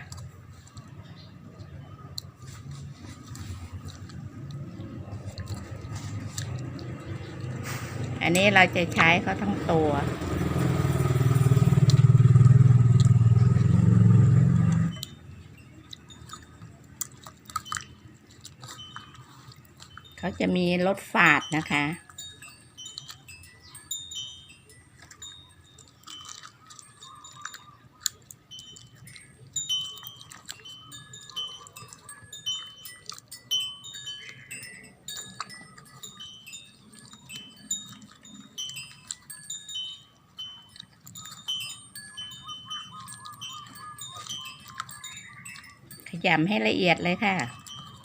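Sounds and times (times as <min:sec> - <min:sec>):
wind chimes tinkling: 0:00.0 - 0:48.0.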